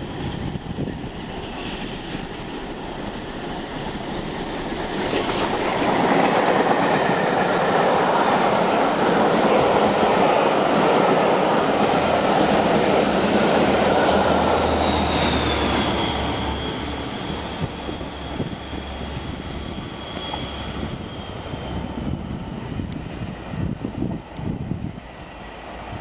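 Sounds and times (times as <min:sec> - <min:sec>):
train wheels rushing on rails: 0:00.0 - 0:26.0.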